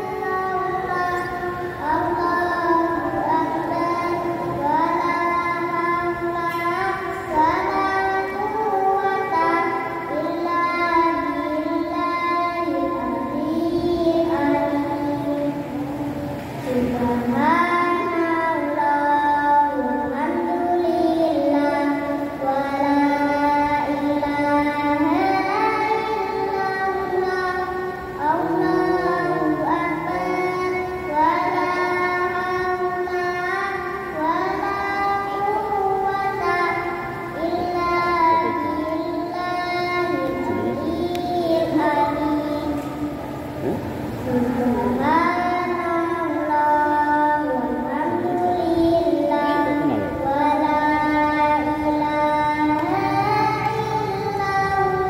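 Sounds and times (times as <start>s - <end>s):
boy singing devotional chant: 0.0s - 55.0s.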